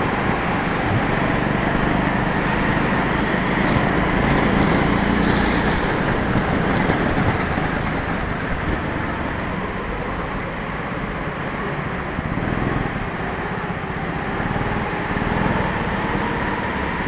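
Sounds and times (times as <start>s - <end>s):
go-kart driving at speed: 0.0s - 17.0s.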